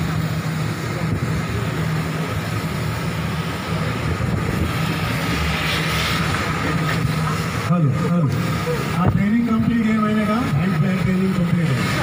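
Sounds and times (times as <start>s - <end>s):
high machine whine: 0.0s - 12.0s
ship machinery low drone: 0.0s - 12.0s.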